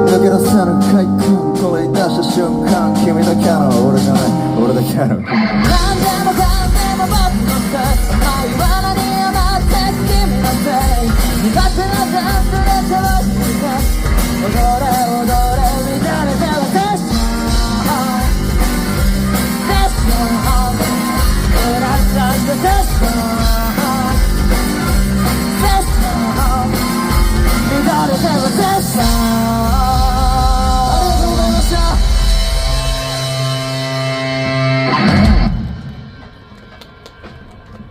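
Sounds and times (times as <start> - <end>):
person singing: 0.0 - 32.8
live rock band playing: 0.0 - 37.6
drums: 0.0 - 37.9
electric guitar: 0.0 - 37.9.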